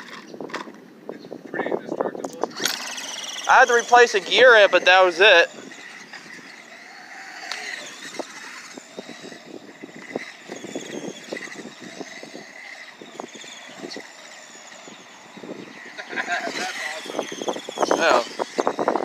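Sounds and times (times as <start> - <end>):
electric motor and gear whine: 2.1 - 19.0.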